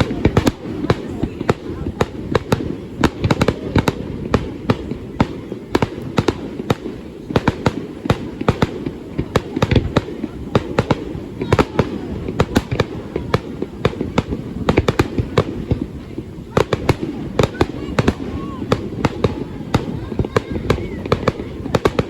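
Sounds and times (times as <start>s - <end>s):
fireworks bangs and cracks: 0.0s - 22.0s.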